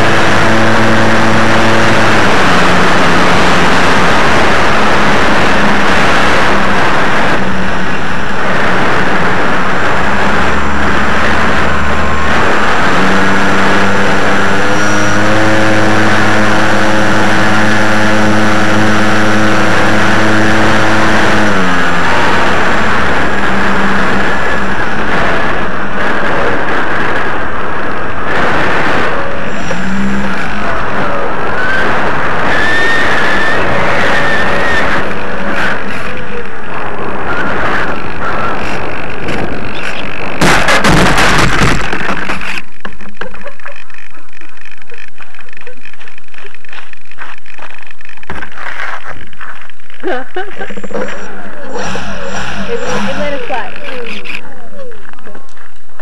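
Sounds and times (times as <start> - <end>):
aircraft engine and propeller: 0.0 - 46.8, 50.0 - 54.9
wind rush over microphone: 0.0 - 56.0.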